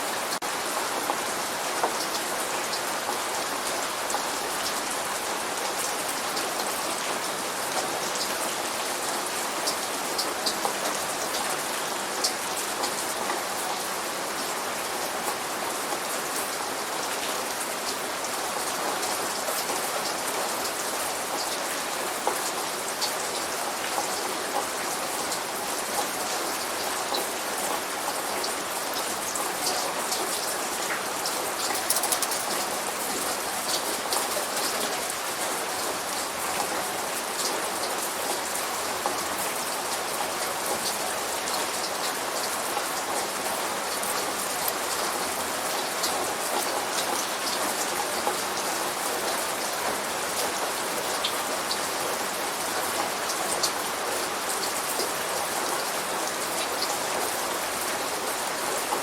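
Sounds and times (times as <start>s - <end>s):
light rain on hard surfaces: 0.0s - 59.0s.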